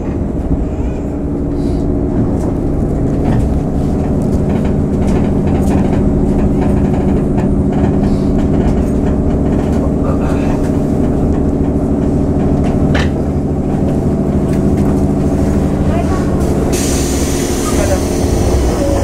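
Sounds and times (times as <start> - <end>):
electric train motor hum: 0.0 - 19.0
wheels clicking on rails: 0.0 - 19.0.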